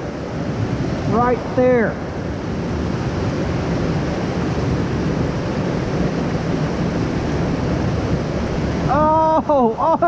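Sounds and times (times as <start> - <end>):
creek water rushing: 0.0 - 10.0
wind buffeting microphone: 0.0 - 10.0.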